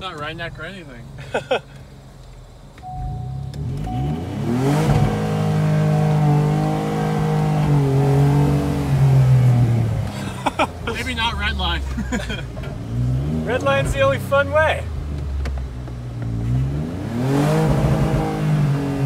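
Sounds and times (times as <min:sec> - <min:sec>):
pickup engine revving: 0:03.0 - 0:19.0.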